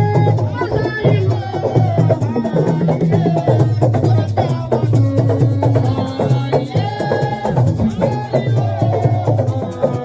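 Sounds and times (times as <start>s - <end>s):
drums playing busy rhythm: 0.0s - 10.0s
voices: 0.0s - 10.0s.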